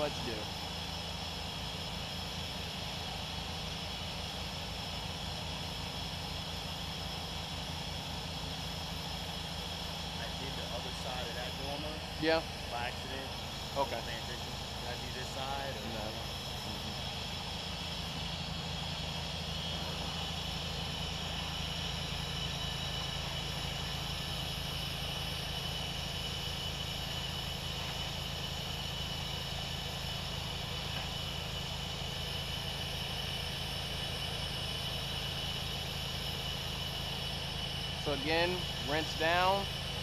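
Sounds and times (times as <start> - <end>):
pressure washer engine running: 0.0 - 40.0.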